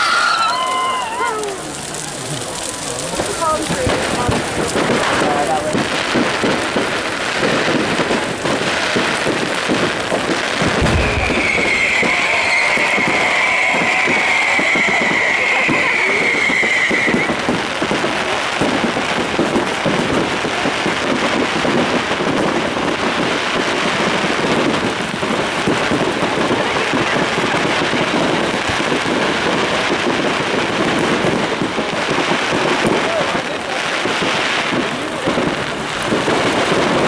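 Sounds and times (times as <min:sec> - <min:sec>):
fireworks crackling and banging: 0:00.0 - 0:37.0.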